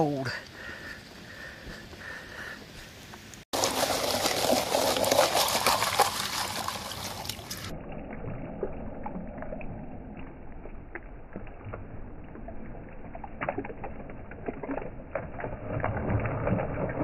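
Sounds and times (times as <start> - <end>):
water sloshing and splashing: 2.8 - 17.0.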